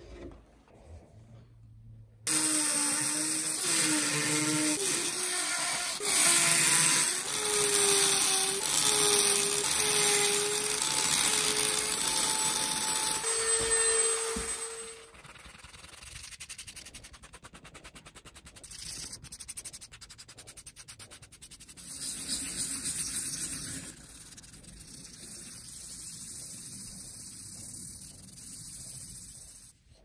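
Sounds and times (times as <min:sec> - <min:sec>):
sandpaper rubbing on wood: 0:02.3 - 0:29.8.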